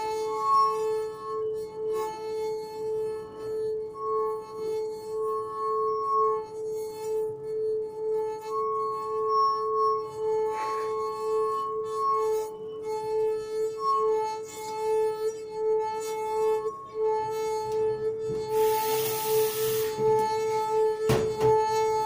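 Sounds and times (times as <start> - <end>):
wine glass ringing tone: 0.0 - 22.0.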